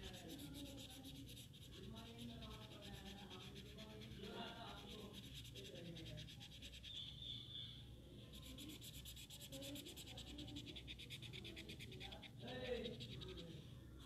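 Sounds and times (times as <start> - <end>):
pencil scratching on paper: 0.0 - 7.4, 8.2 - 13.6.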